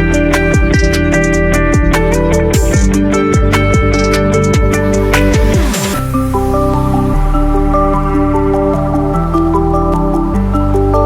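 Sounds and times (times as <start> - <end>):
electronic dance music: 0.0 - 8.9.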